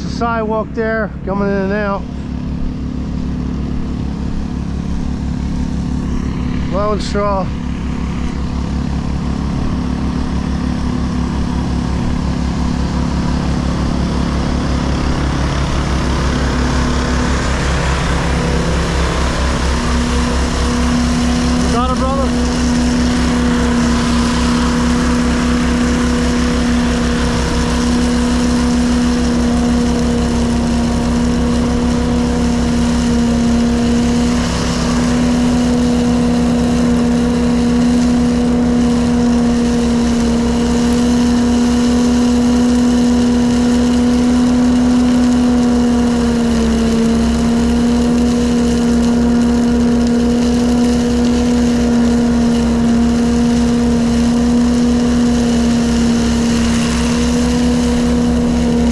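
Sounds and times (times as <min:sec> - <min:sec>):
straw blower engine humming: 0:00.0 - 0:58.9.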